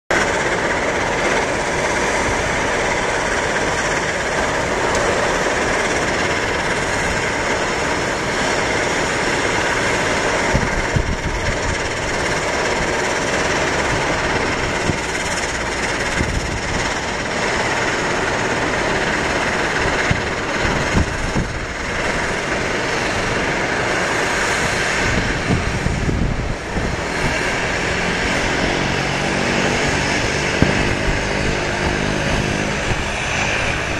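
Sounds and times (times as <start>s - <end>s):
jet engines hissing at idle: 0.1s - 33.9s
low pitched engine drone: 0.1s - 33.9s
wind buffeting microphone: 0.2s - 33.9s.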